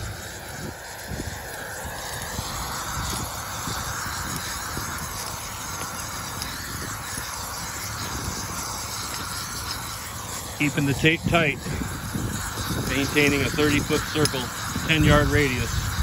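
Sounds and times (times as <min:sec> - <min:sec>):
aerosol paint spraying: 0:00.0 - 0:16.0.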